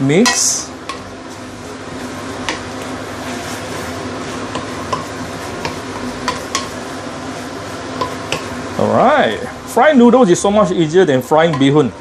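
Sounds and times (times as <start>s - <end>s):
noodles sizzling in a pan: 0.0s - 12.0s.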